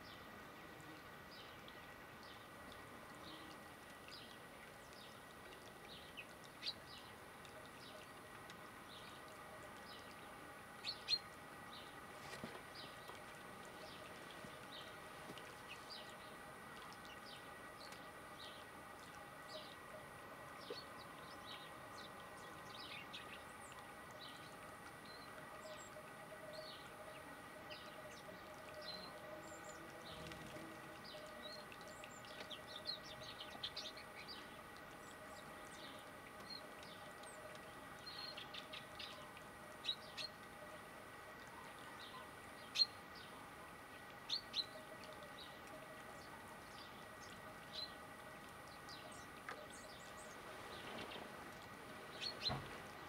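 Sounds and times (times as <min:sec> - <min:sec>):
faint steady hum: 0:00.0 - 0:53.0
songbirds chirping: 0:00.0 - 0:53.0.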